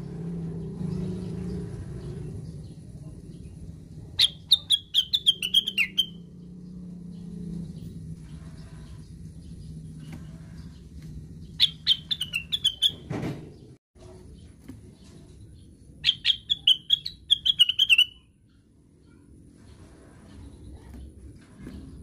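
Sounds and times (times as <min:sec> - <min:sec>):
bird chirping: 0:00.5 - 0:19.2.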